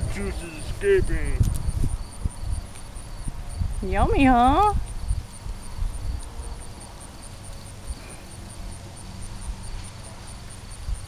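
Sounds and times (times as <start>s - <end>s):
high insect chirp: 0.0s - 11.0s.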